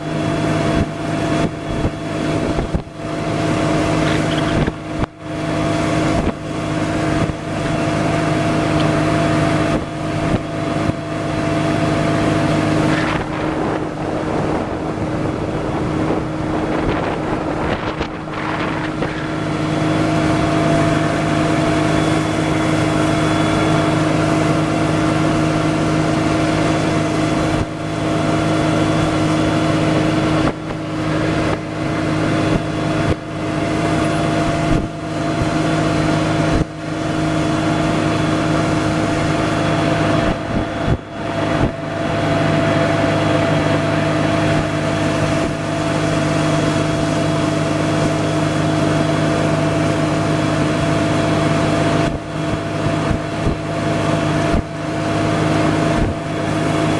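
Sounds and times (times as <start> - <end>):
outboard motor running: 0.0 - 56.9.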